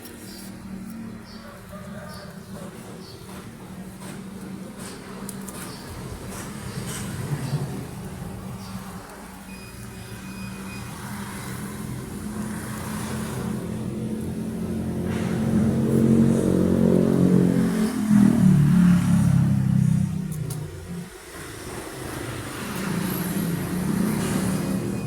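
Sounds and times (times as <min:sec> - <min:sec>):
vehicle engine passing by: 0:00.1 - 0:09.5, 0:10.1 - 0:25.0.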